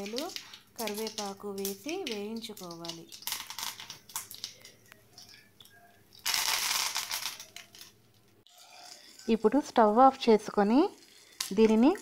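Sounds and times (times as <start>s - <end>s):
loud sizzle: 0.0s - 12.0s
spices crackling in hot oil: 0.0s - 12.0s.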